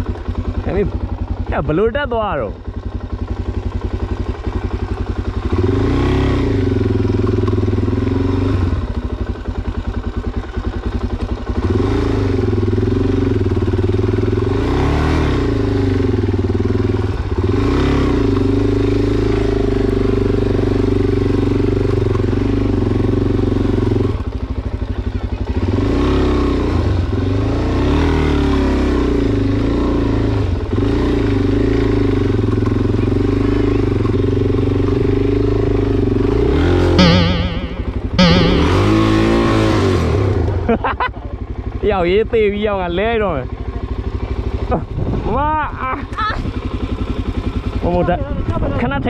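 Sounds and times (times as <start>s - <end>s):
motorcycle engine revving under load: 0.0s - 49.0s.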